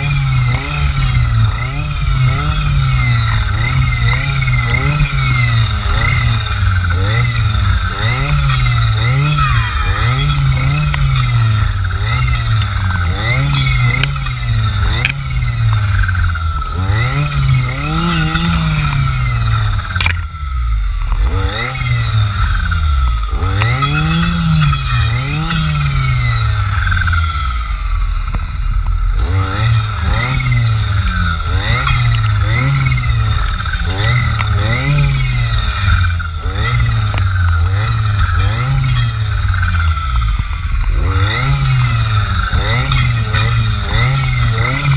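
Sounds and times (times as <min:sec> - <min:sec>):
clearing saw engine revving: 0:00.0 - 0:44.9.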